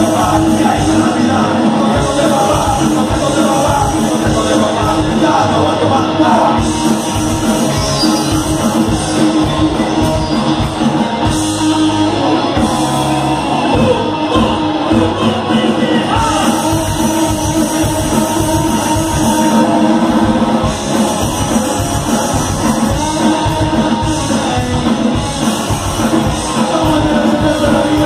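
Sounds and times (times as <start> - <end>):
electric guitars: 0.0 - 28.0
lead vocal singing: 0.0 - 28.0
punk rock band playing live: 0.0 - 28.0.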